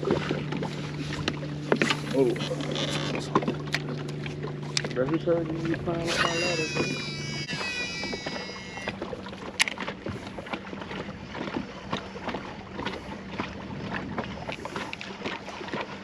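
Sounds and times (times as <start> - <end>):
waves lapping against boat hull: 0.0 - 16.0.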